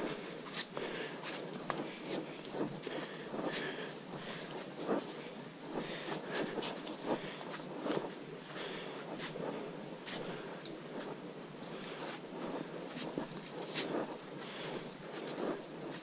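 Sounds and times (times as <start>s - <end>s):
footsteps on muddy trail: 0.0s - 9.5s, 11.7s - 16.0s
clothing and gear rustling: 0.0s - 16.0s.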